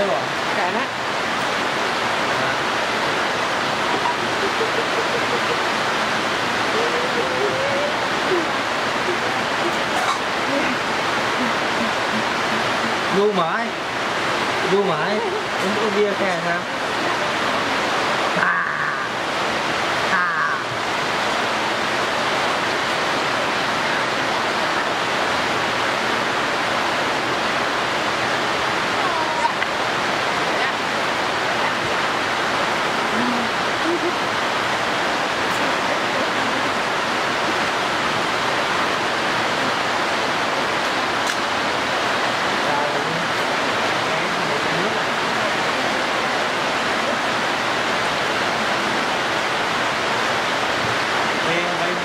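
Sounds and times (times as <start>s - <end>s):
steady rushing hiss: 0.0s - 52.0s.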